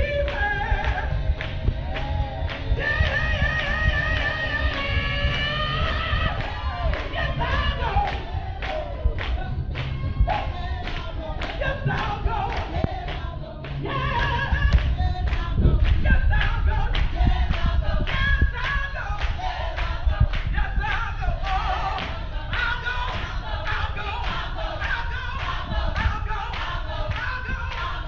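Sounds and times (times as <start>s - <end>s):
woman singing into microphone: 0.0s - 2.2s, 2.8s - 28.0s
heavy low thumps: 0.0s - 24.6s
backing voices singing: 0.0s - 28.0s.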